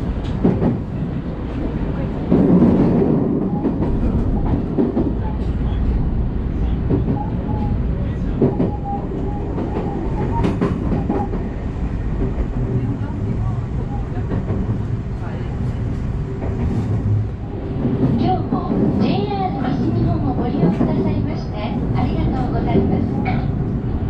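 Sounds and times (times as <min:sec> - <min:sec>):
train rumble inside car: 0:00.0 - 0:24.0.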